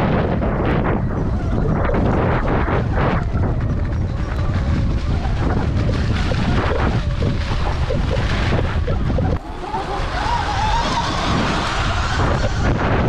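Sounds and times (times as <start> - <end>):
wavering whine: 0.0 - 13.0
wind buffeting microphone: 0.0 - 13.0.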